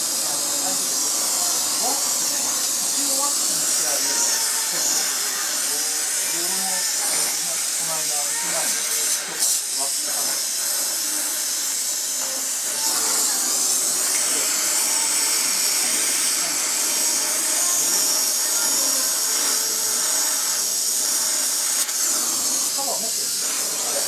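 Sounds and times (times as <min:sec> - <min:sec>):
gas torch flame hissing: 0:00.0 - 0:24.0.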